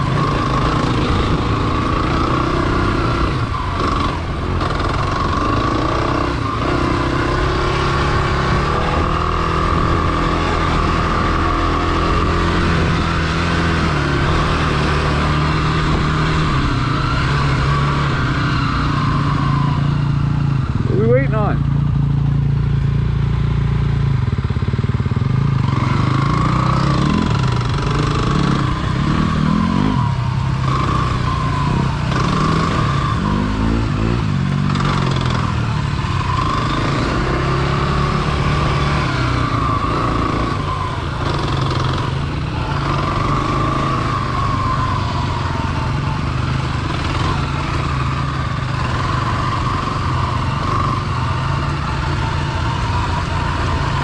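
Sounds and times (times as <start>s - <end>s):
dirt bike engine revving: 0.0s - 22.5s, 24.4s - 54.0s.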